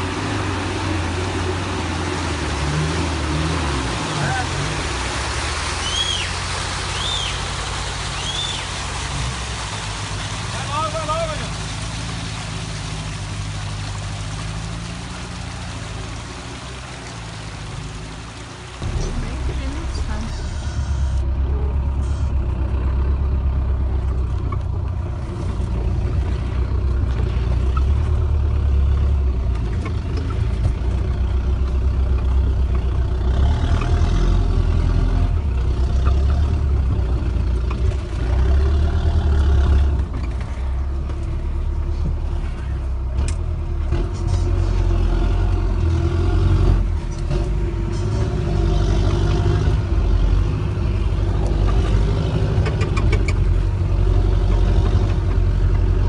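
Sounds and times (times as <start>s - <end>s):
off-road vehicle engine revving: 0.0s - 56.0s.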